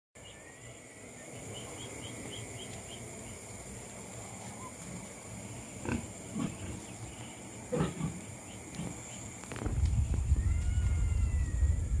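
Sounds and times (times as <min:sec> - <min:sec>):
insects droning: 0:00.2 - 0:12.0
quick insect chirps: 0:00.2 - 0:12.0.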